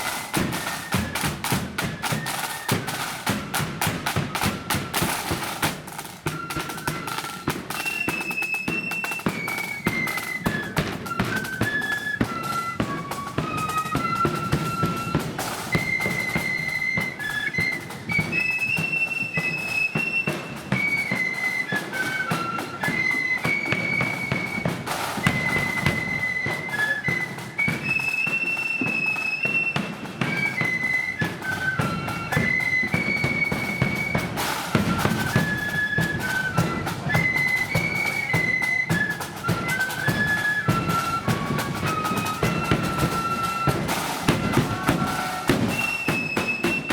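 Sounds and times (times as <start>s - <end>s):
flutes playing a melody: 0.0s - 46.9s
snare and bass drums: 0.0s - 46.9s.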